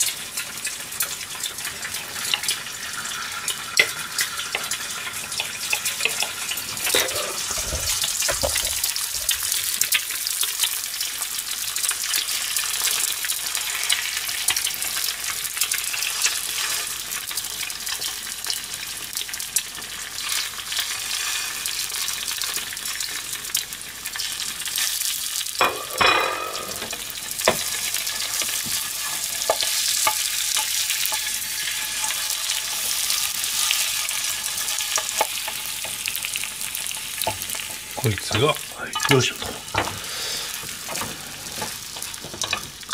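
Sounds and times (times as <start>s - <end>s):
food sizzling in a frying pan: 0.0s - 42.9s.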